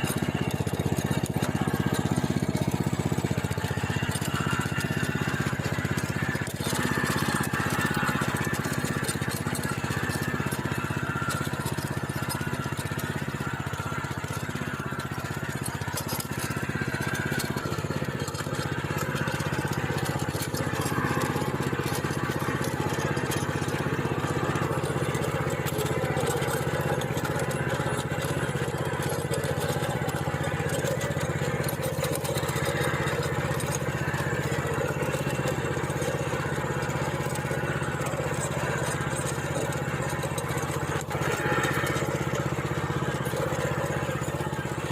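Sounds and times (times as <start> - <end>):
tiller engine running: 0.0 - 44.9.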